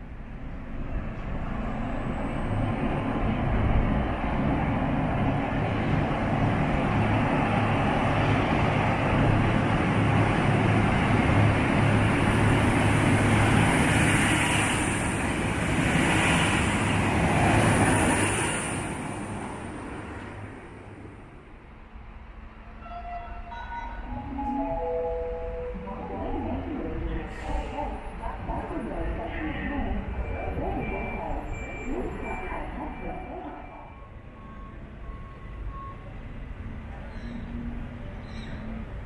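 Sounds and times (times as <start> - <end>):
diesel train engine: 0.0 - 39.0.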